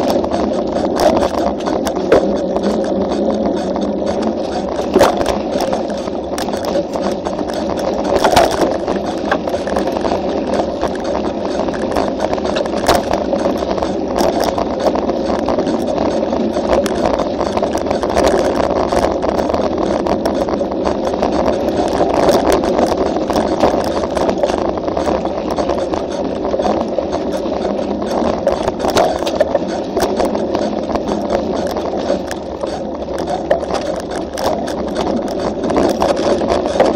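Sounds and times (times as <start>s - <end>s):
bike knocks and rattles: 0.0s - 36.9s
tyres and wind rushing: 0.0s - 36.9s.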